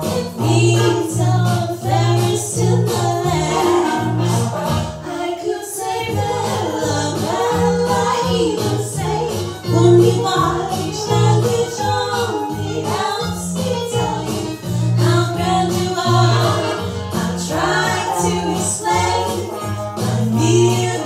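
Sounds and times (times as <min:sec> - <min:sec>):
two women singing a duet: 0:00.0 - 0:04.4, 0:05.0 - 0:21.0
musical accompaniment with bass: 0:00.0 - 0:21.0.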